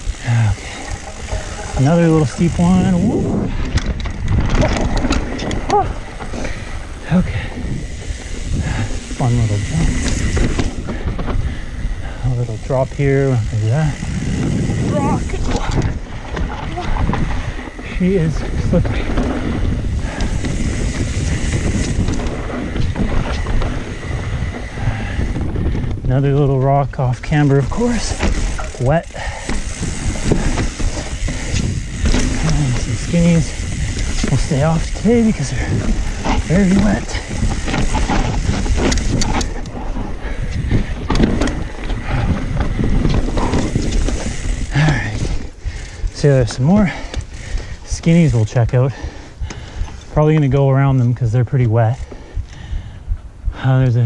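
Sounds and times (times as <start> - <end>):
bike clattering and rattling: 0.0 - 53.0
bike tyres on dirt trail: 0.0 - 54.0
wind buffeting microphone: 0.0 - 54.0.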